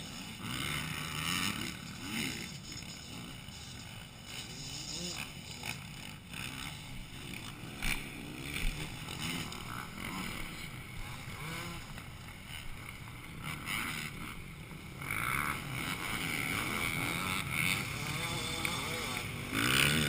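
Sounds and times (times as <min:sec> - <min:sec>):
motocross motorcycle engines revving: 0:00.0 - 0:20.0.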